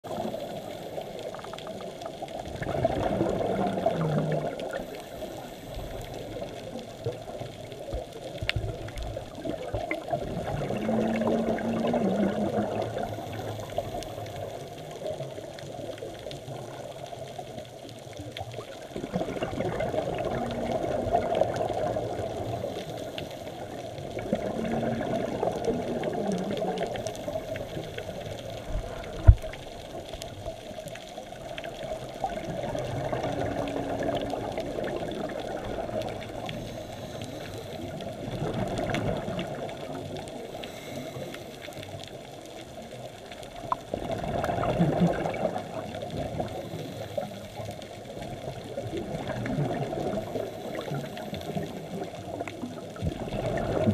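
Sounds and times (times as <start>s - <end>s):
underwater air bubbling: 0.0s - 53.9s
faint clicks: 0.1s - 53.9s.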